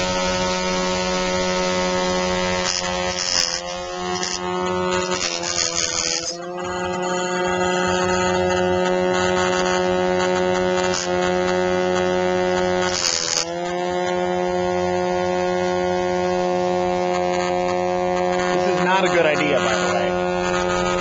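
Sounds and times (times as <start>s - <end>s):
small electric motor buzzing: 0.0s - 21.0s.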